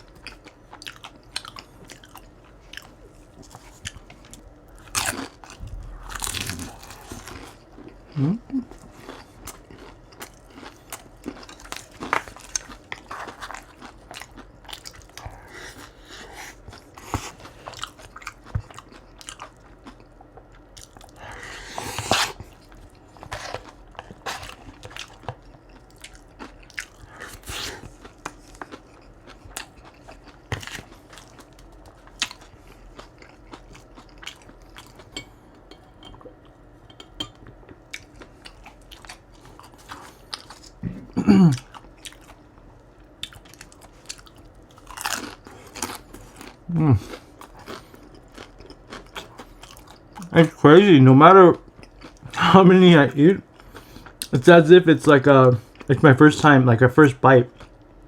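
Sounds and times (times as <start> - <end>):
chewing crispy fried food: 0.0 - 35.7, 37.5 - 58.0.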